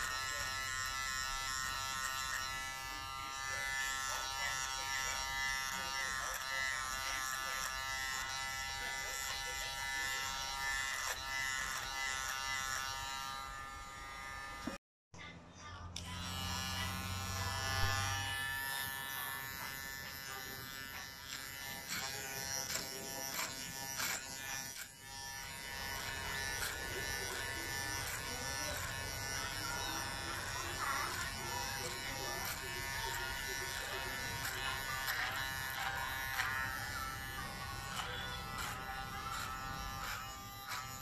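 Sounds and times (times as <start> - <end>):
electric hair clipper buzzing: 0.0 - 14.8, 16.0 - 41.0.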